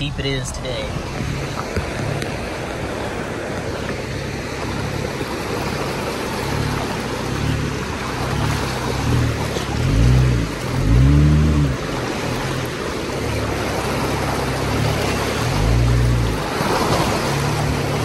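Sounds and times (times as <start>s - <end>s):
car engine revving: 0.0s - 18.0s
water rushing and splashing: 0.0s - 18.0s.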